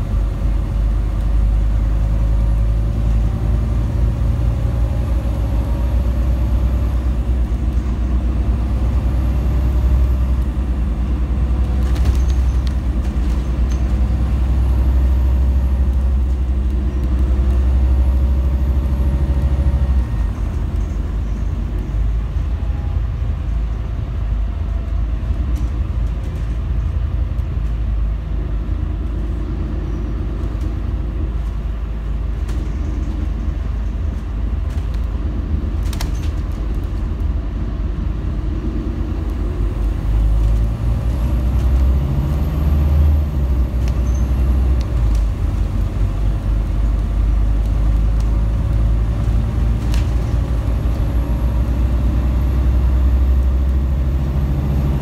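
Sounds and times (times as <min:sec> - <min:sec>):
bus diesel engine rumble: 0:00.0 - 0:55.0
tyres on the road: 0:00.0 - 0:55.0.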